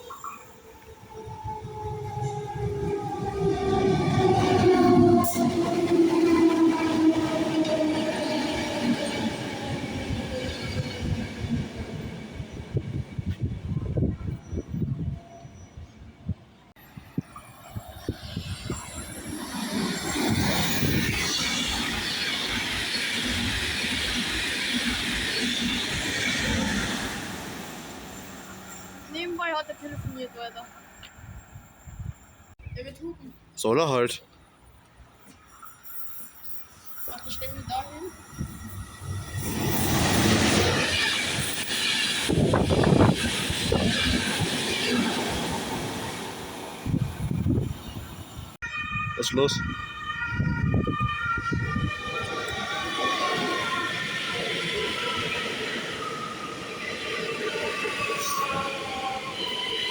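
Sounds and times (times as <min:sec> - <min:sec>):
train passing: 0:00.0 - 0:59.9.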